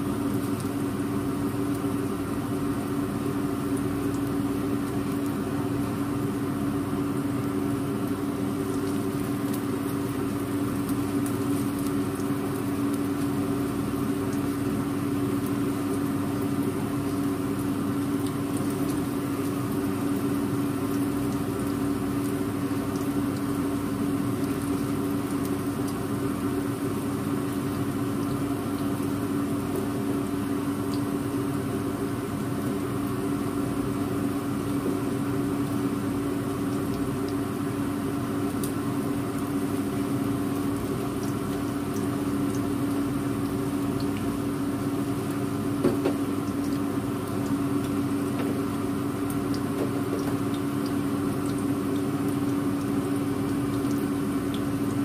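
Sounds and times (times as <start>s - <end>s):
fish frying in oil: 0.0s - 55.0s.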